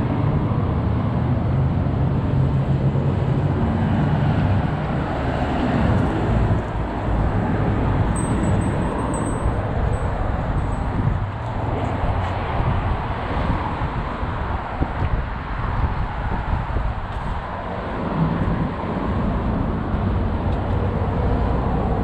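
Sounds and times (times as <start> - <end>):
low engine hum: 0.0 - 22.0
street traffic: 0.0 - 22.0.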